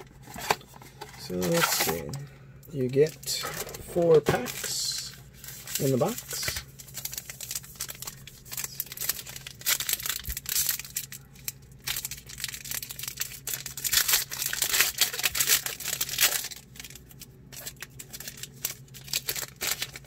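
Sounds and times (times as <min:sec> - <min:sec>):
foil wrapper crinkling: 0:02.8 - 0:20.0.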